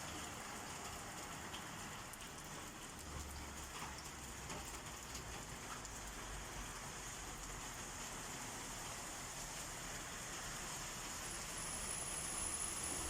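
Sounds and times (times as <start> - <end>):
rain falling: 0.0 - 13.0
raindrops ticking on surfaces: 0.0 - 13.0.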